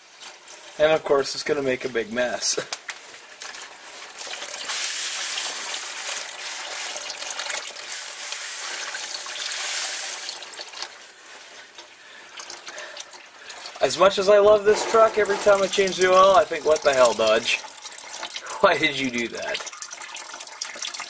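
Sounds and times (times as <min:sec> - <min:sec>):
oil pouring and splattering: 0:00.0 - 0:21.0.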